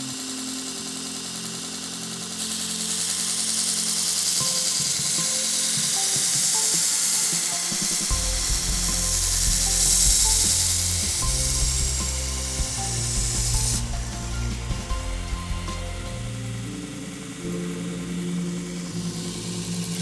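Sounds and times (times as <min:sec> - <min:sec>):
belt grinder grinding steel: 0:00.0 - 0:20.0.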